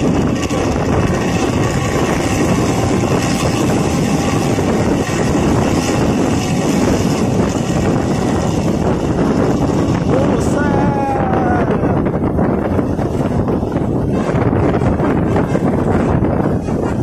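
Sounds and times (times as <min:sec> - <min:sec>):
vehicle engine and road noise: 0:00.0 - 0:17.0
wind buffeting microphone: 0:00.0 - 0:17.0.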